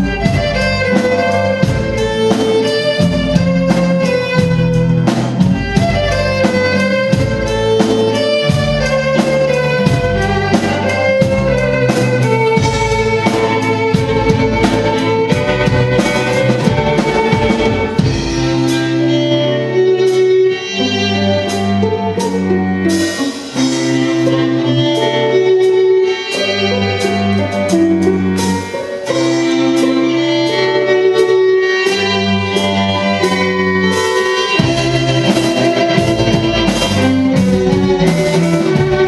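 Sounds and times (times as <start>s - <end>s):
orchestral strings: 0.0s - 39.0s
steady drum beat: 0.0s - 39.0s
violin melody: 0.0s - 39.0s.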